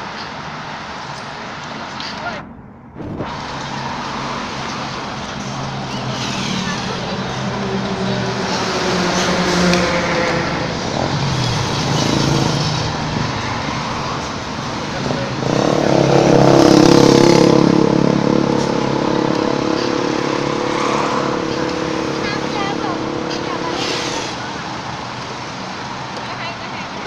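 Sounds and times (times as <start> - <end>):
vehicle engines running: 0.0 - 27.0.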